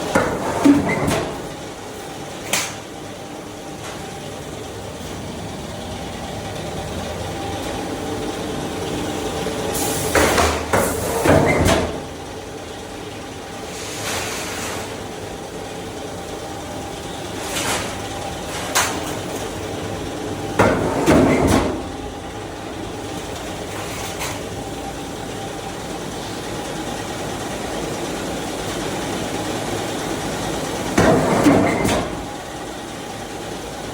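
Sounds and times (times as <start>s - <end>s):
machine hum: 0.0s - 33.9s.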